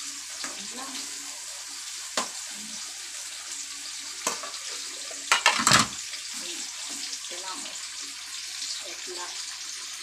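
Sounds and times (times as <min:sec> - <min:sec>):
onions and tomatoes sizzling in a wok: 0:00.0 - 0:10.0.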